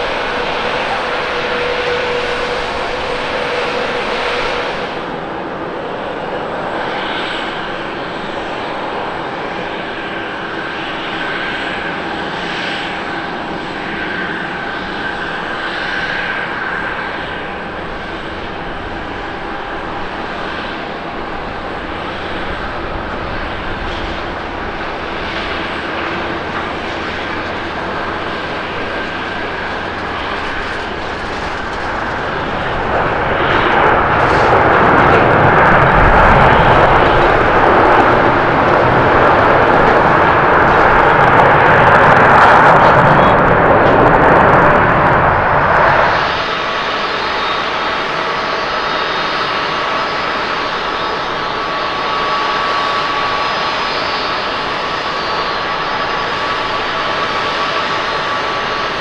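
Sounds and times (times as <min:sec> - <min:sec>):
jet engine reverse thrust roar: 0:00.0 - 0:59.0
jet engines whining on approach: 0:00.0 - 0:59.0.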